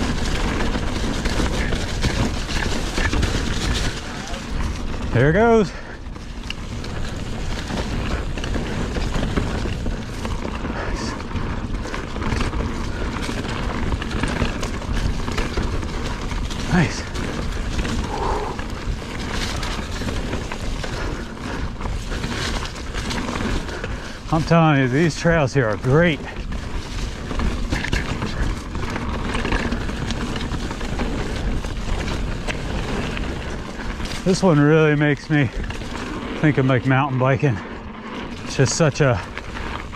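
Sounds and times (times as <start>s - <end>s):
steady low rumble: 0.0s - 34.6s
bike clicks and rattles: 0.0s - 39.9s
bike tyres rolling over dirt: 0.0s - 39.9s.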